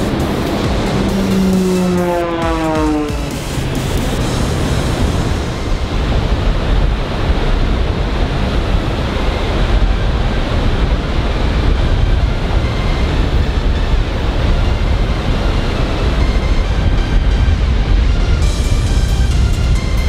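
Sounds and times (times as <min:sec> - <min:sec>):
propeller aircraft flying past: 0:00.0 - 0:19.6
wind buffeting microphone: 0:00.0 - 0:20.0.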